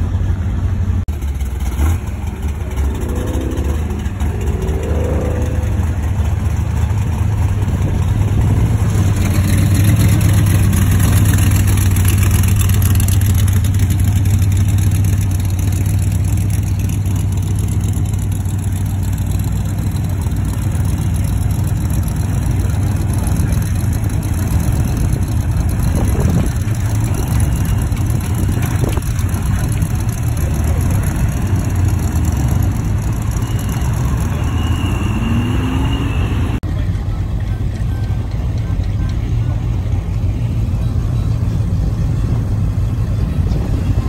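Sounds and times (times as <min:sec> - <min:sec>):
loud car engines idling: 0:00.0 - 0:44.0.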